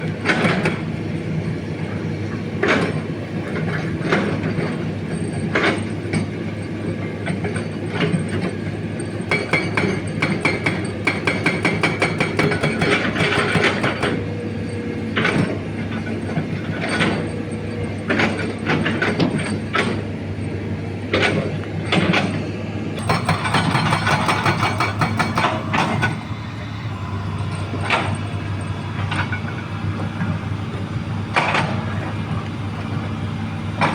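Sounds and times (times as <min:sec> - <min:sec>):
hydraulic breaker hammering rock: 0:00.0 - 0:06.3, 0:07.0 - 0:20.2, 0:23.0 - 0:33.9
excavator diesel engine running: 0:00.0 - 0:33.9.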